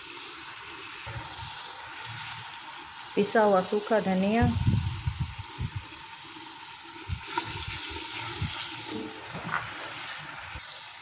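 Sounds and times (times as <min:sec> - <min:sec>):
spices sizzling in a pot: 0:00.0 - 0:11.0.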